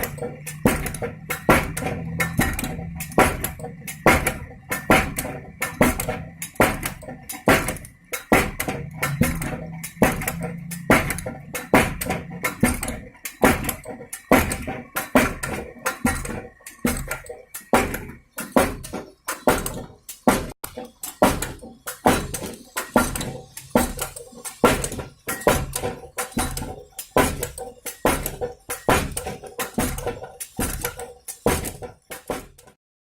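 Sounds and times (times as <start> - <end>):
pounding machine knocking: 0.0 - 32.8.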